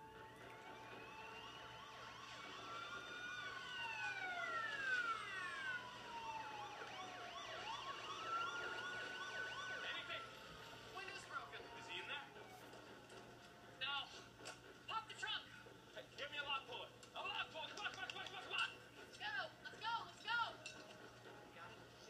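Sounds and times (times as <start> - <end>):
emergency vehicle sirens from television: 0.0 - 22.0.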